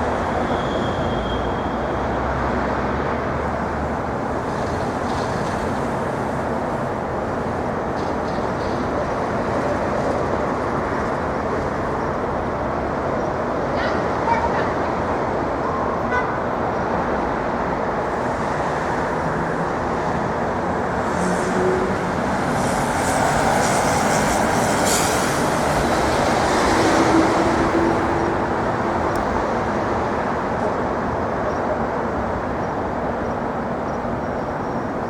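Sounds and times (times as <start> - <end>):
city street traffic: 0.0 - 35.0.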